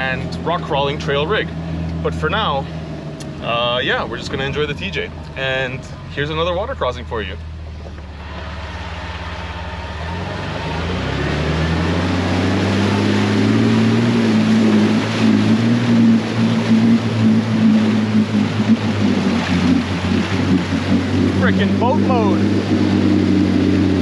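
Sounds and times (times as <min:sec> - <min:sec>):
engine revving: 0:00.0 - 0:24.0
water rushing and splashing: 0:00.0 - 0:24.0.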